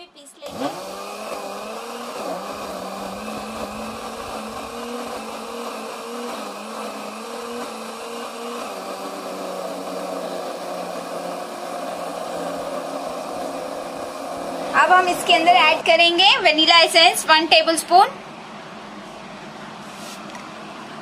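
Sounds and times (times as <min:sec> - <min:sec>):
mixer grinder running: 0:00.4 - 0:17.6.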